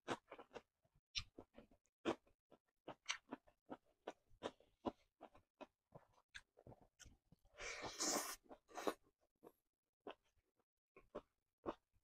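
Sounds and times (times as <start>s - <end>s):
wet chewing mouth sounds: 0.0s - 10.4s.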